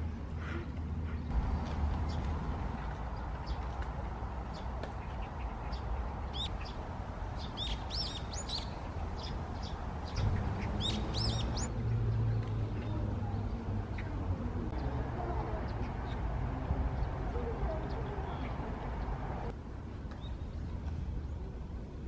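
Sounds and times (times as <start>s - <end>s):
steady low rumble: 0.0s - 22.0s
small birds chirping: 1.1s - 19.5s.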